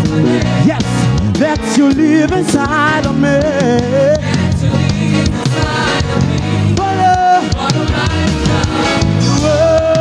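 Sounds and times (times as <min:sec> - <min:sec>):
gospel band playing: 0:00.0 - 0:10.0
people singing: 0:00.0 - 0:10.0
steady drum beat: 0:00.0 - 0:10.0.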